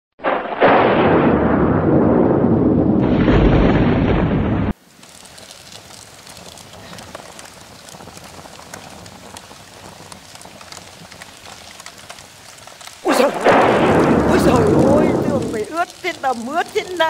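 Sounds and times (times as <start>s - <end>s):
rain pattering: 3.0s - 17.0s.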